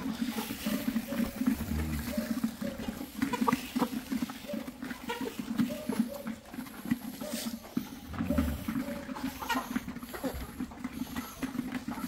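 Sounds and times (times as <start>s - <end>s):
chickens and chicks calling: 0.0s - 12.0s.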